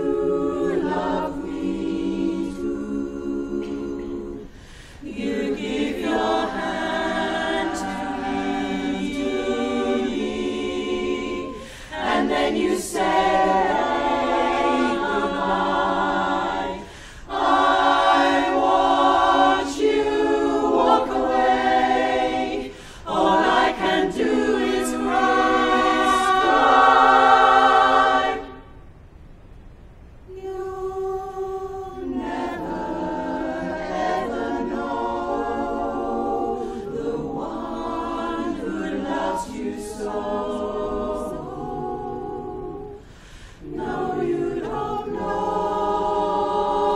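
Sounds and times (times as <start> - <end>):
women's chorus singing a cappella: 0.0 - 28.7, 30.3 - 46.9.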